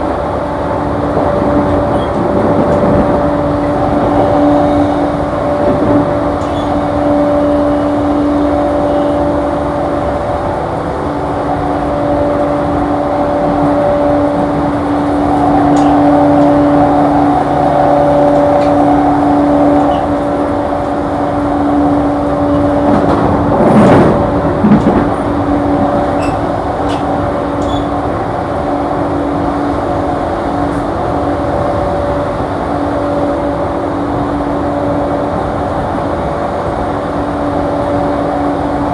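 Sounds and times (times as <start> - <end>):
continuous humming tone: 0.0 - 38.9
wheel-on-rail rumble: 0.0 - 38.9.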